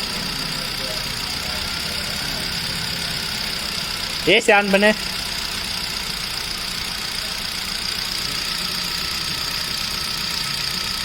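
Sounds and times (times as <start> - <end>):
car engine idling: 0.0 - 11.0
high-pitched whine: 0.0 - 11.0.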